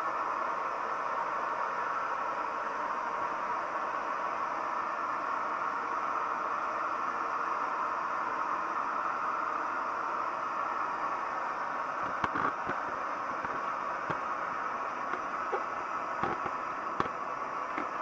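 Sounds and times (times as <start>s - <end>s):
stove burner hissing: 0.1s - 18.0s.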